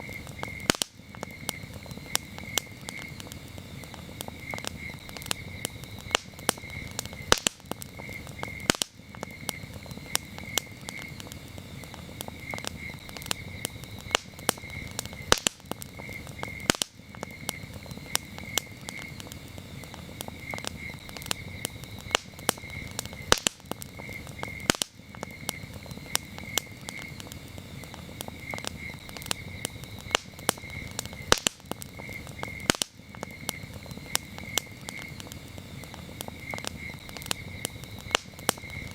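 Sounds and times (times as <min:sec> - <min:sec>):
campfire crackling and popping: 0:00.0 - 0:38.9
crickets chirping: 0:00.0 - 0:38.9.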